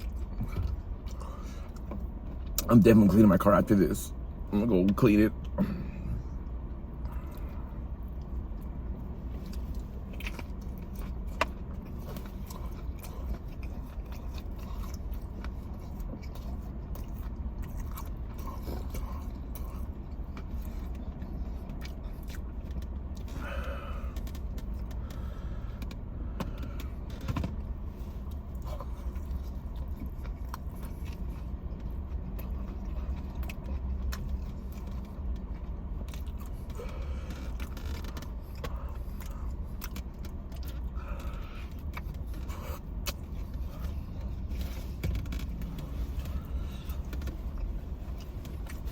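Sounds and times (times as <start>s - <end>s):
chewing and crunching food: 0.0s - 3.8s, 4.4s - 48.9s
low hum inside a car: 0.0s - 48.9s.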